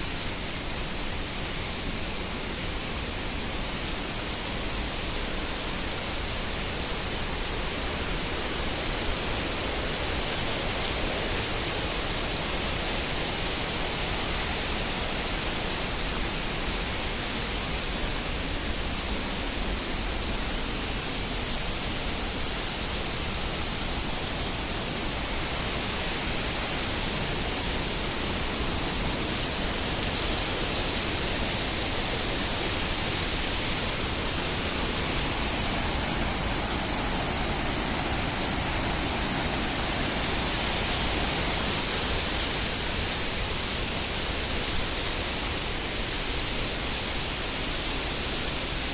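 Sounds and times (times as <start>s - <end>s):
fast-flowing water rushing: 0.0s - 48.9s.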